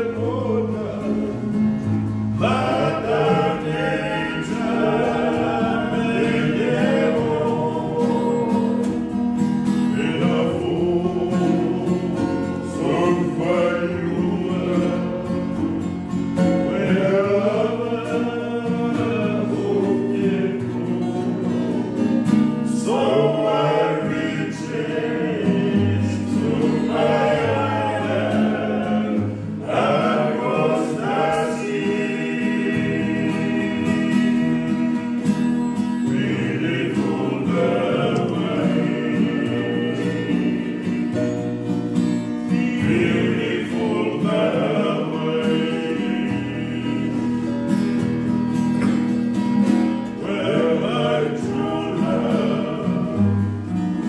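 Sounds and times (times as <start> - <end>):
men singing together: 0.0 - 48.0, 50.1 - 54.0
strummed acoustic guitars: 0.0 - 54.0.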